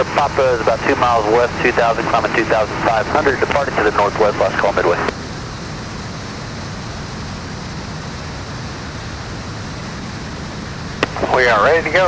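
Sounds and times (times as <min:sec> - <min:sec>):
aircraft engine and airflow hiss: 0:00.0 - 0:12.0.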